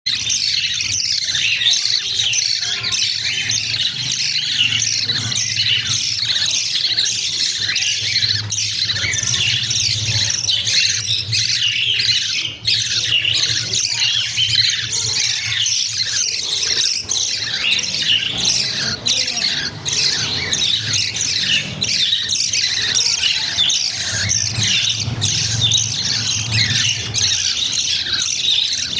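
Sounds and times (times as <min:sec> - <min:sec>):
chicks begging calls: 0:00.1 - 0:28.9.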